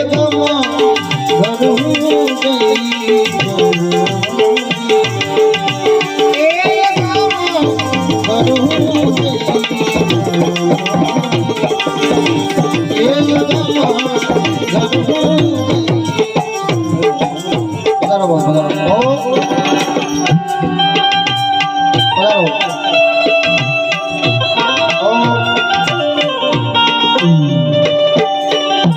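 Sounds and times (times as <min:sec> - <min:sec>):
person singing: 0:00.0 - 0:28.9
tabla: 0:00.0 - 0:28.9
melody instrument: 0:00.1 - 0:28.9.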